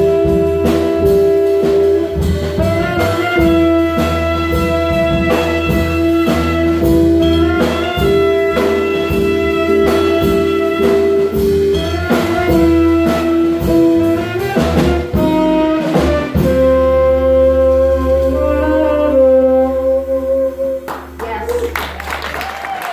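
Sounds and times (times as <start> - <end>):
drum fill: 0.0 - 20.0
saxophones holding long notes: 0.0 - 21.7
live jazz band: 0.0 - 22.9.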